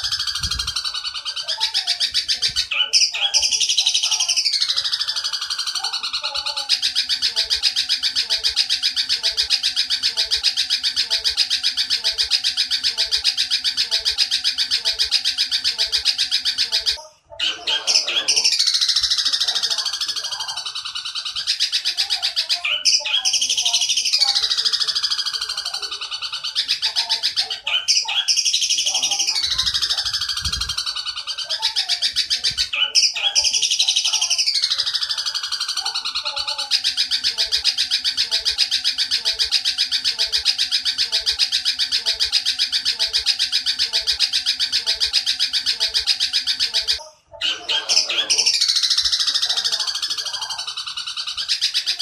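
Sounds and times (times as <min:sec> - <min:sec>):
sparrow chattering trill: 0:00.0 - 0:52.0.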